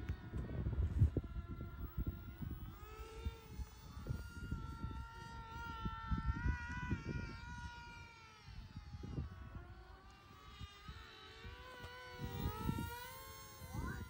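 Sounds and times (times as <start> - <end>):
model plane motor whining: 0.0 - 14.0
wind buffeting microphone: 0.0 - 14.0.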